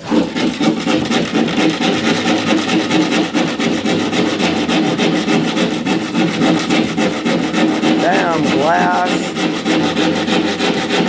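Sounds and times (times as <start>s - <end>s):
hand saw rasping through glass: 0.0s - 11.0s.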